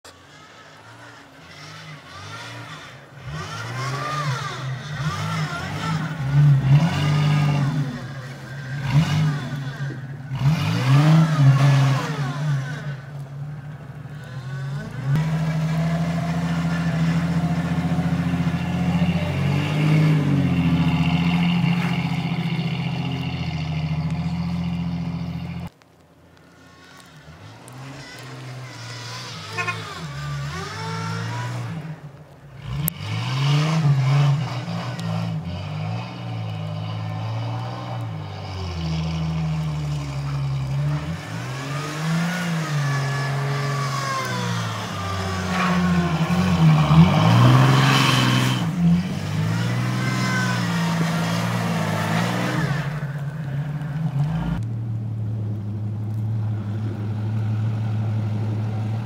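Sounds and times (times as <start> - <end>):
car engine revving: 0.0 - 25.8, 26.4 - 59.0.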